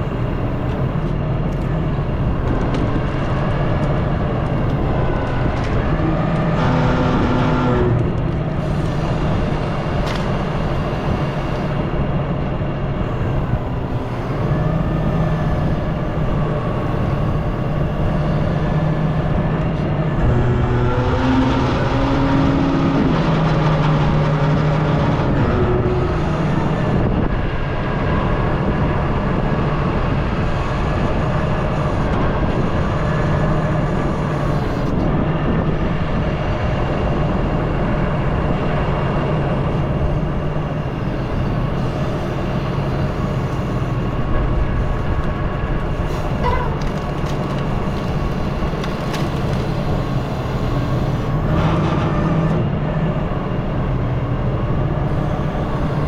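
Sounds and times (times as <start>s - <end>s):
diesel engine running: 0.0s - 56.0s
high steady whining: 0.0s - 56.0s.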